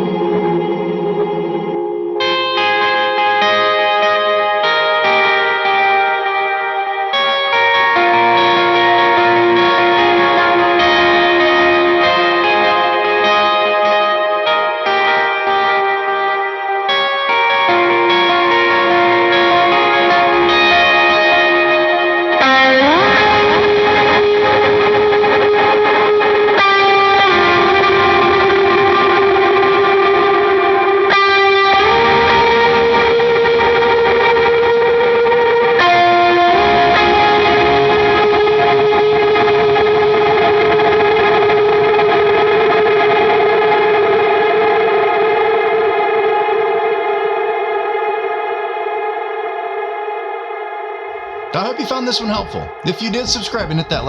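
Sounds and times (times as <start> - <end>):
electric guitar lead line: 0.0 - 48.5.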